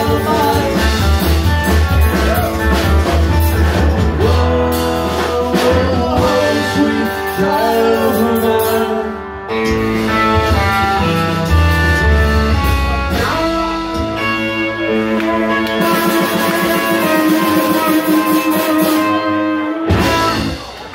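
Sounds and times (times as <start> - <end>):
person singing: 0.0 - 9.8, 12.6 - 20.7
drum kit: 0.0 - 20.9
guitar: 0.0 - 20.9
upright double bass: 0.0 - 20.9.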